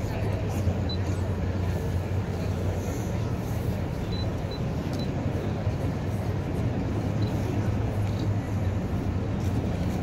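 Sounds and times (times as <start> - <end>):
city background rumble: 0.0 - 10.0.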